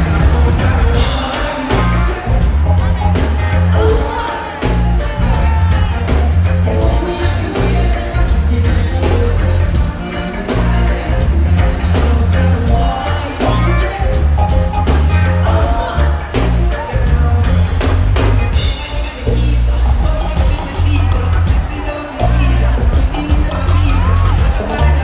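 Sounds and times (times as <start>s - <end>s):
person singing into microphone: 0.0s - 17.9s, 18.5s - 25.0s
drums: 0.0s - 25.0s
heavy bass line: 0.0s - 25.0s
live band through loud speakers: 0.0s - 25.0s.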